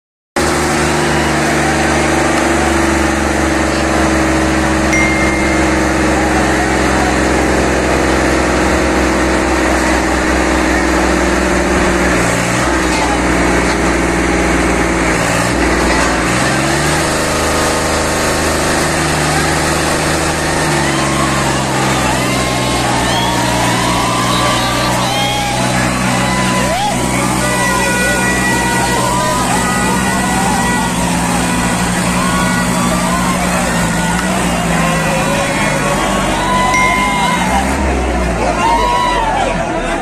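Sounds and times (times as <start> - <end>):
tractor diesel engines at high revs: 0.4 - 5.2, 5.8 - 40.0
crowd voices: 0.4 - 40.0.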